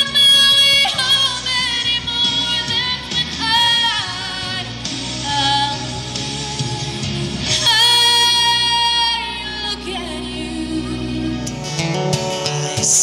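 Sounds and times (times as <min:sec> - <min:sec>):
woman singing into a microphone: 0:00.0 - 0:11.6
instrumental backing music: 0:00.0 - 0:13.0.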